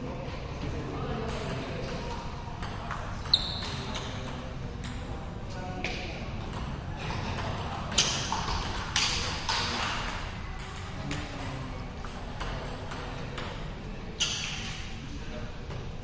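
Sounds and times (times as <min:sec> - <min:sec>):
low background chatter: 0:00.0 - 0:16.0.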